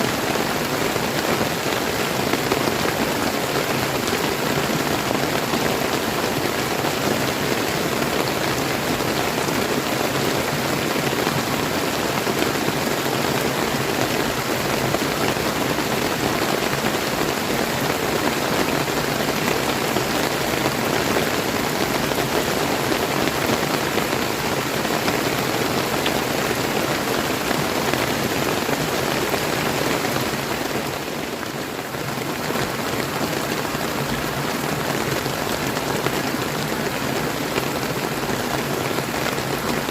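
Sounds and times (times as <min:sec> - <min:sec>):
river rushing: 0:00.0 - 0:39.9
steady rain falling: 0:00.0 - 0:39.9.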